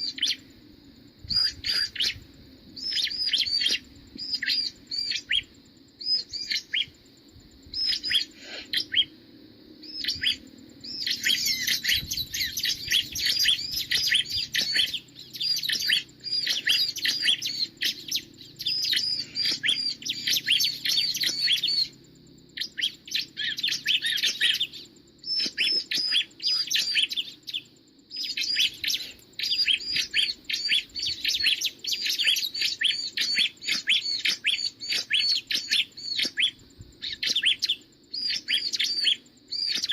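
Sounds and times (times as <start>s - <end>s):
bird calling in fast chirps: 1.2s - 2.2s, 2.8s - 6.9s, 9.8s - 39.9s.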